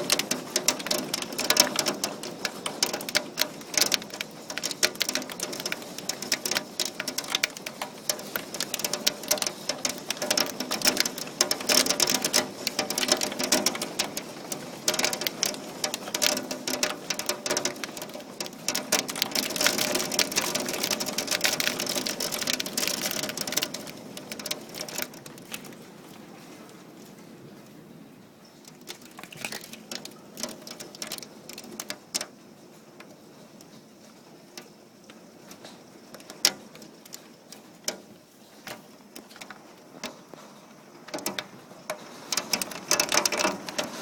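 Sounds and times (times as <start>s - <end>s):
hailstones clattering: 0.0s - 27.0s, 28.5s - 44.0s.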